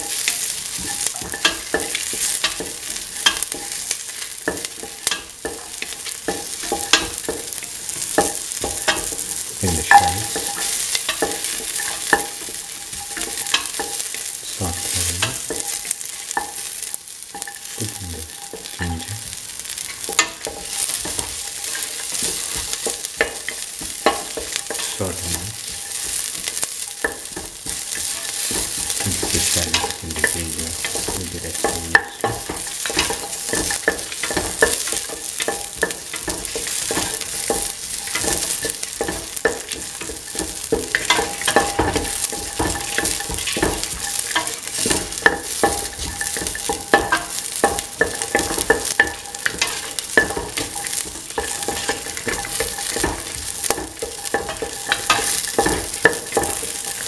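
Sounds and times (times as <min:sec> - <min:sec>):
food sizzling in hot oil: 0:00.0 - 0:57.0
spoon scraping and tapping pot: 0:00.0 - 0:57.0.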